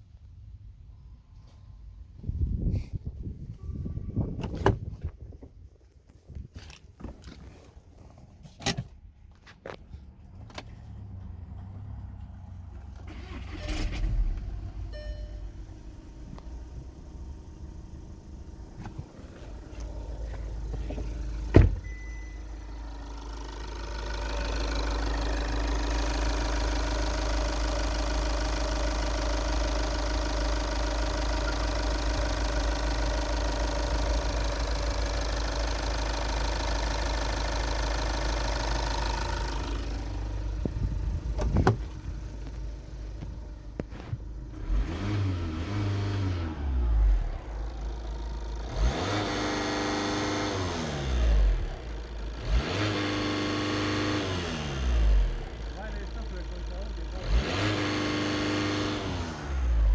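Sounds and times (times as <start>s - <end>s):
diesel engine idling: 11.0s - 59.9s.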